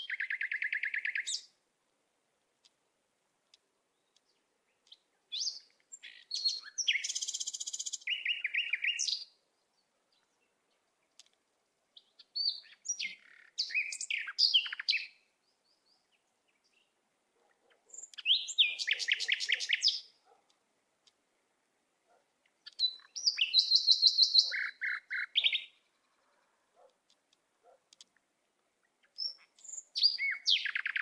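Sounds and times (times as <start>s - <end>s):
songbird chirping and trilling: 0.0s - 1.6s, 3.5s - 31.0s.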